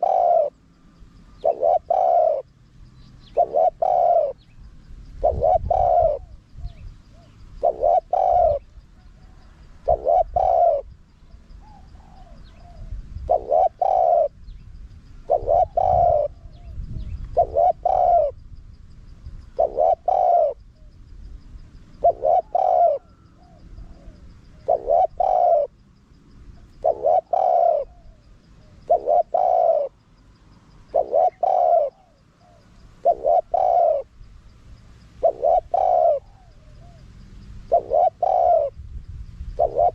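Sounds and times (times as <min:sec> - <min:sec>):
dove cooing: 0:00.0 - 0:14.5, 0:15.2 - 0:18.4, 0:19.4 - 0:21.0, 0:21.9 - 0:25.8, 0:26.6 - 0:30.0, 0:30.8 - 0:34.2, 0:35.1 - 0:38.8, 0:39.5 - 0:39.9.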